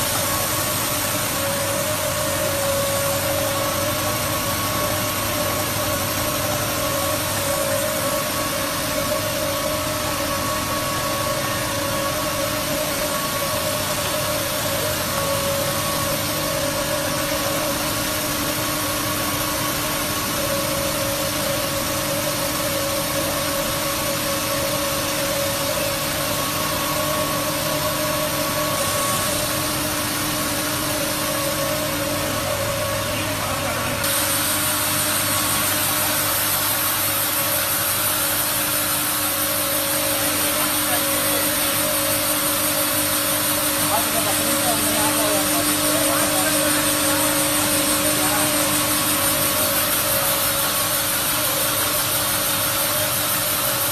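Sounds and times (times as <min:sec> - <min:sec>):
mixer machine hum: 0:00.0 - 0:53.9.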